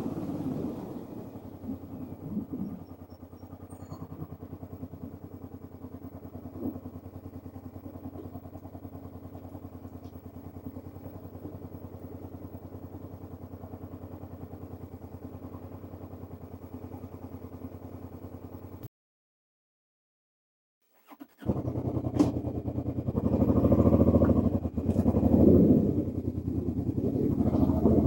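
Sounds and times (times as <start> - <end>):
motorcycle engine idling: 0.0 - 18.9, 21.0 - 28.0.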